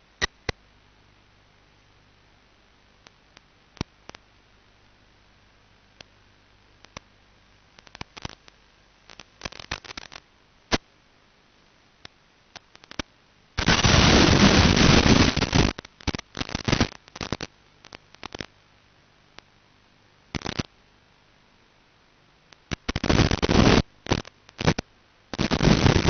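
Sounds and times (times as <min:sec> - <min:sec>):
crackling radio static: 0:00.0 - 0:01.0, 0:01.9 - 0:26.0.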